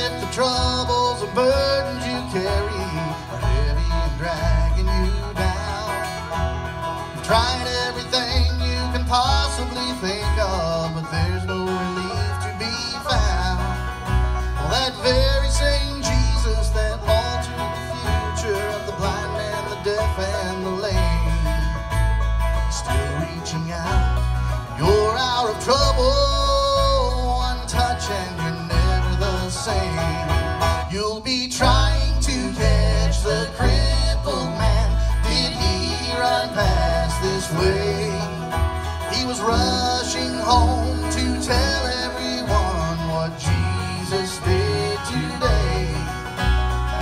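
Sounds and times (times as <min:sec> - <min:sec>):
acoustic guitar picking: 0:00.0 - 0:47.0
banjo picking: 0:00.0 - 0:47.0
upright bass plucking: 0:00.0 - 0:47.0.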